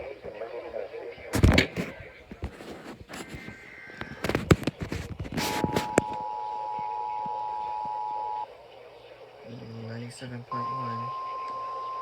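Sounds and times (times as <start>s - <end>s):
radio static crackling: 0.0s - 12.0s.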